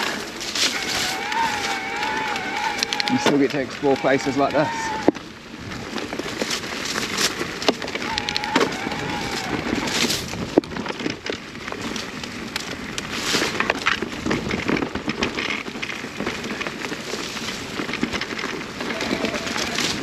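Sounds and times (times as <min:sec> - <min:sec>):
bike clicks and rattles: 0:00.0 - 0:20.0
tyres rolling over dirt: 0:00.0 - 0:20.0.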